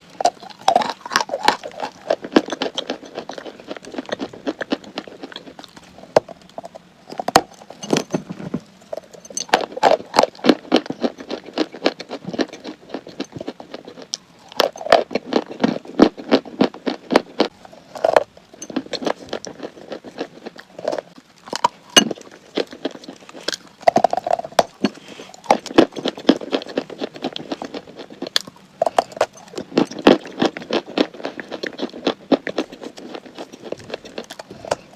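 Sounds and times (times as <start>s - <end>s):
chalk crunching while chewed: 0.0s - 7.9s, 8.8s - 34.9s.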